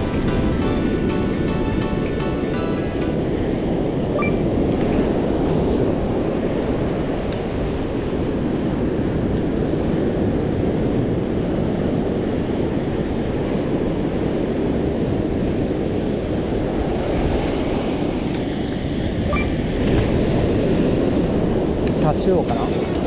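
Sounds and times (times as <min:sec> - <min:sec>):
wind buffeting microphone: 0:00.0 - 0:23.0
rough surf breaking on beach: 0:03.3 - 0:23.0.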